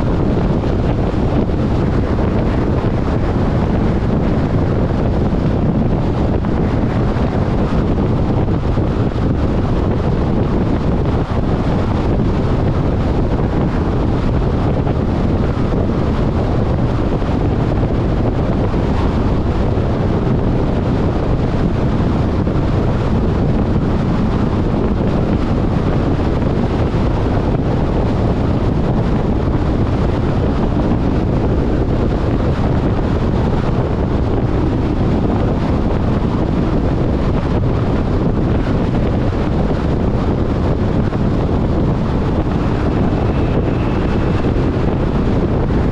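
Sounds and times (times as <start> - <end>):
wind and road noise: 0.0 - 45.9
wind buffeting microphone: 0.0 - 45.9.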